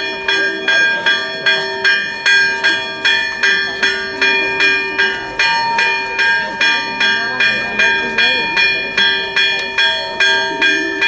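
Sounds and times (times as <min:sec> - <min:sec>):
church bells pealing: 0:00.0 - 0:11.0.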